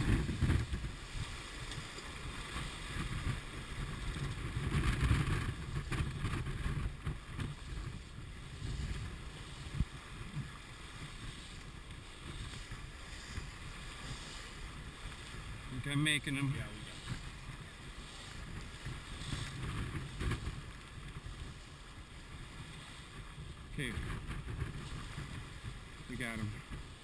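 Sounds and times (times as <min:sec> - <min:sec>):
water rushing along a hull: 0:00.0 - 0:27.0
wind buffeting microphone: 0:00.0 - 0:27.0.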